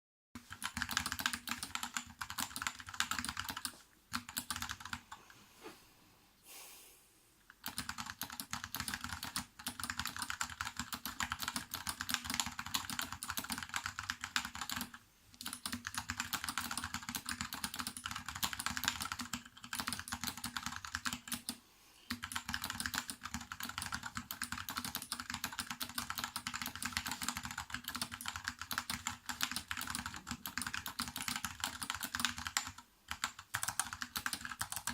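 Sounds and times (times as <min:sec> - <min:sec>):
mechanical keyboard typing: 0:00.4 - 0:05.1, 0:07.5 - 0:34.9.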